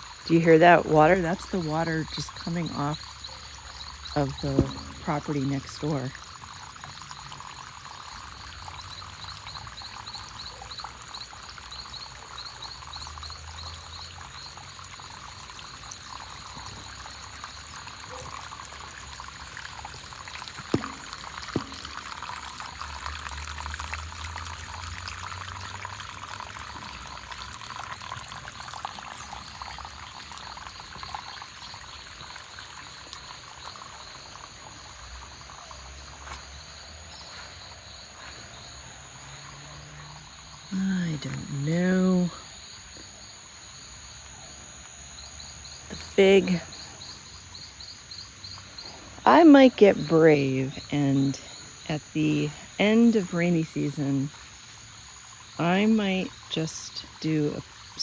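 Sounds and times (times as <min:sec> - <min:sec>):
rain runoff pouring: 0:00.0 - 0:58.0.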